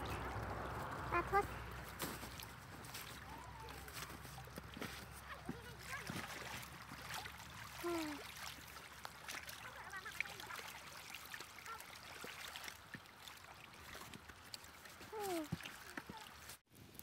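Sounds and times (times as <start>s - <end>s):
faint trickling lapping water: 0.0s - 16.7s.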